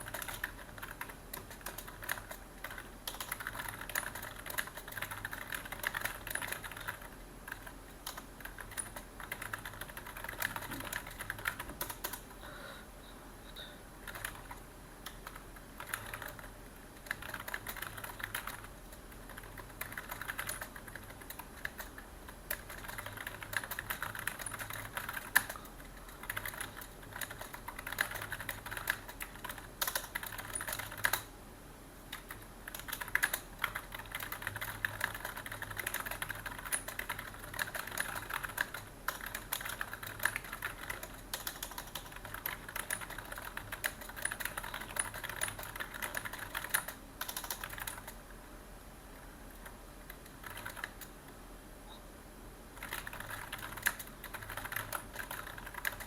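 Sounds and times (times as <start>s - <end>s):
computer keyboard typing: 0.0s - 12.2s, 14.0s - 31.3s, 32.1s - 48.2s, 49.5s - 51.2s, 52.8s - 56.0s.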